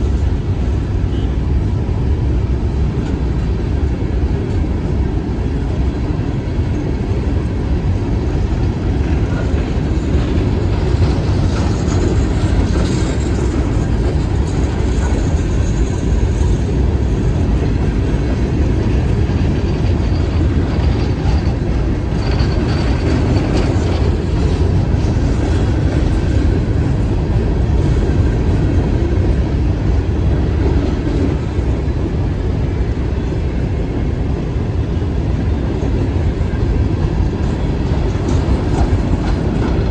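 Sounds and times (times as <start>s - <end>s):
train wheels rumbling on rails: 0.0s - 39.9s
clicking from rail joints: 3.0s - 33.8s, 35.3s - 39.9s.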